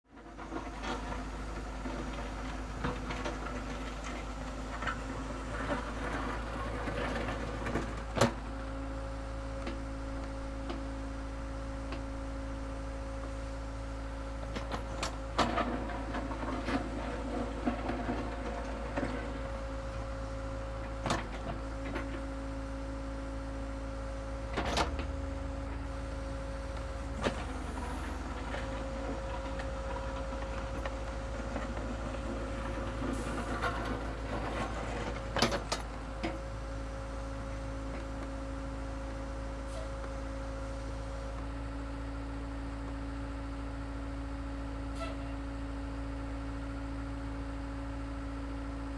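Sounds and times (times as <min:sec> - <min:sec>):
construction machine engine hum: 0:00.1 - 0:48.9.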